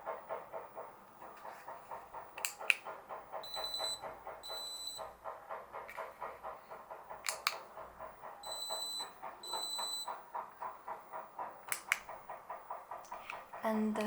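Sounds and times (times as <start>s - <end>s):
sharp clicks: 0.3s - 5.0s, 5.9s - 14.0s.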